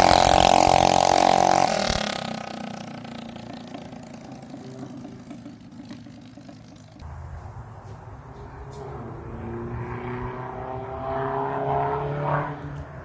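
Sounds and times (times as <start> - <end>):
mini bike engine accelerating: 0.0 - 13.0.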